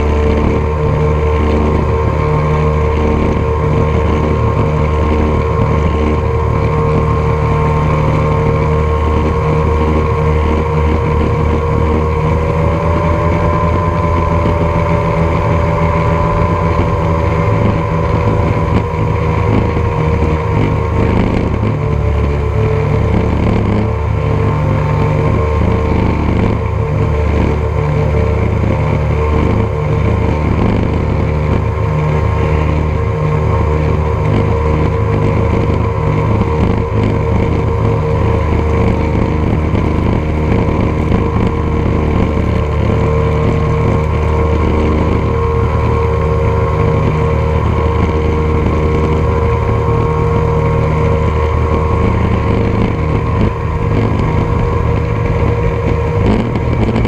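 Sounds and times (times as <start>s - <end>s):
outboard motors running: 0.0s - 57.0s.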